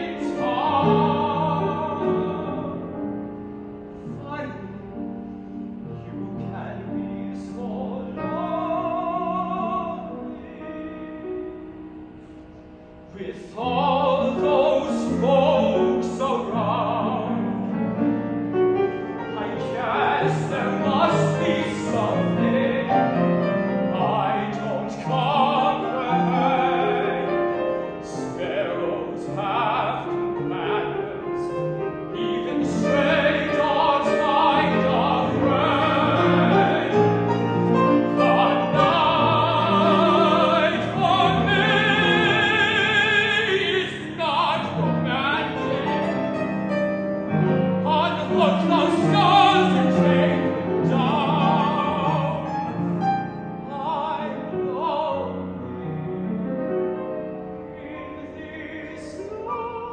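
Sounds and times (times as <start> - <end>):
piano accompaniment: 0.0 - 59.9
tenor singing operatic aria: 0.0 - 59.9.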